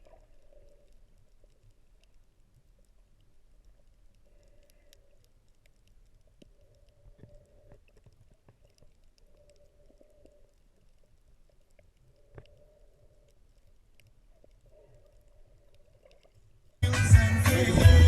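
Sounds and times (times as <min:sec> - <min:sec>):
faint clicks and ticks: 0:00.0 - 0:16.8.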